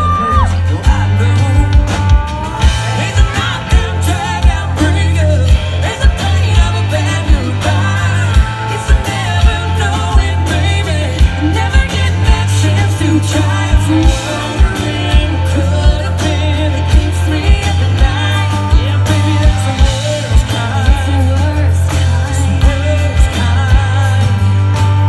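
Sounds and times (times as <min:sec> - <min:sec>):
bass guitar: 0:00.0 - 0:25.0
electric and acoustic guitars: 0:00.0 - 0:25.0
person singing: 0:00.0 - 0:25.0.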